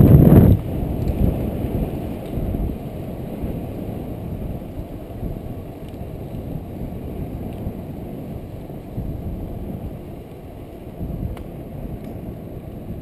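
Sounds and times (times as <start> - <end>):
bike tyre rumble on road: 0.0 - 13.0
wind buffeting microphone: 0.0 - 13.0.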